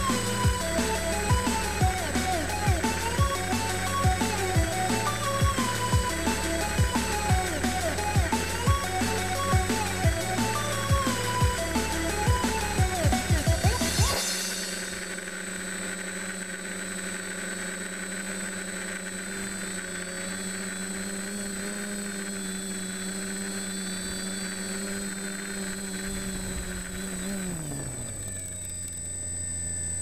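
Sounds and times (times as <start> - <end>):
drone motors humming: 0.0 - 30.0
thin high whine: 0.0 - 30.0.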